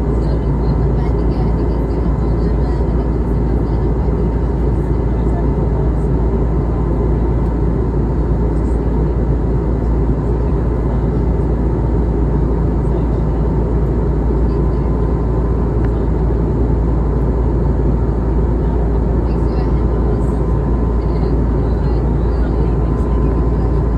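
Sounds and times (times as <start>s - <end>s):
airplane cabin engine rumble: 0.0s - 23.9s.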